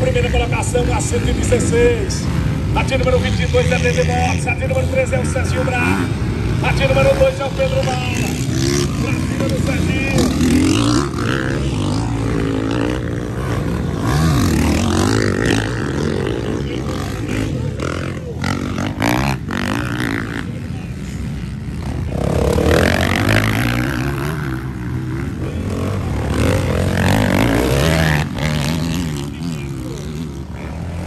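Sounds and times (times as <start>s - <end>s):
motocross bike engines revving: 0.0s - 31.0s
motorbike passing close: 0.0s - 31.0s.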